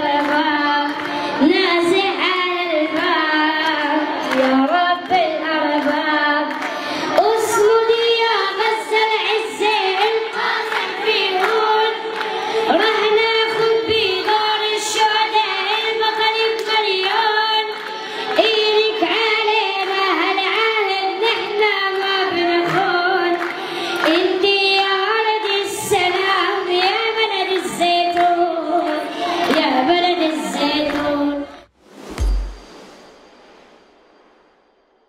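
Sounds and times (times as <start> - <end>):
boy singing into a microphone: 0.0 - 31.6.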